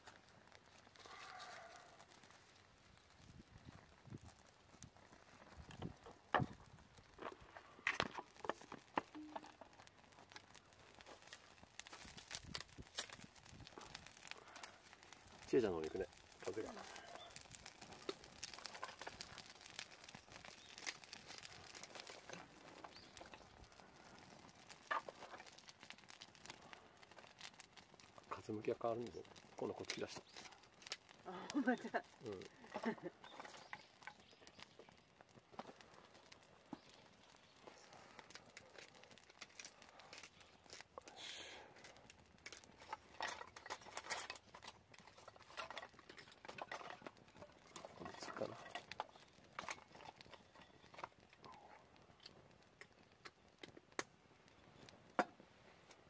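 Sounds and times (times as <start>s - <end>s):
fire crackling: 0.0s - 56.0s
wood snapping: 5.7s - 54.2s.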